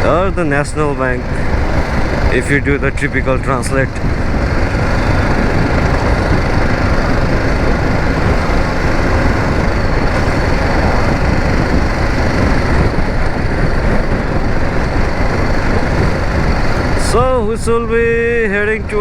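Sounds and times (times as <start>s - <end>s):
motorcycle engine running: 0.0s - 19.0s
riding wind noise: 0.0s - 19.0s.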